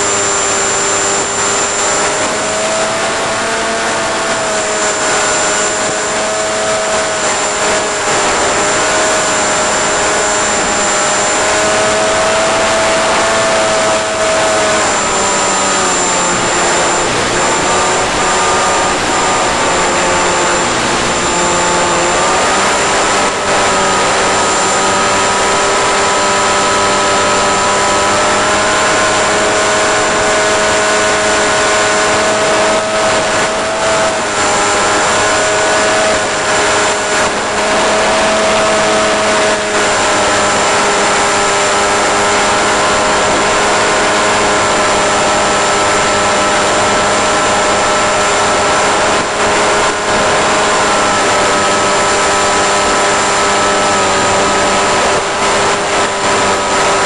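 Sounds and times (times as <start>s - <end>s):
electric motor and propeller whine: 0.0s - 57.0s.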